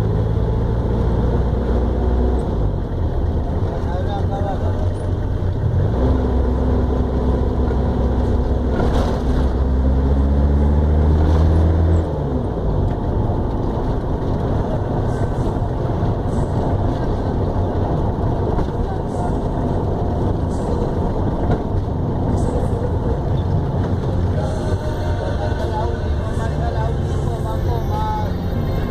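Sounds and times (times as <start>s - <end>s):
road and cabin noise: 0.0s - 28.9s
van engine droning: 0.0s - 28.9s.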